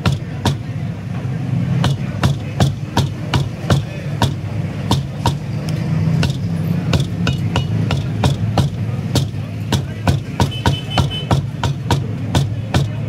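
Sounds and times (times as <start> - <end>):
cleaver chopping on wooden block: 0.0 - 0.7, 1.8 - 5.5, 6.2 - 13.0.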